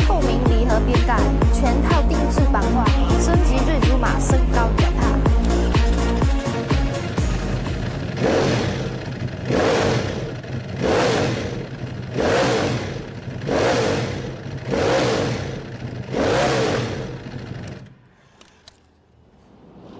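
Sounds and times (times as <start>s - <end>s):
motorcycle engine idling: 0.0s - 18.1s.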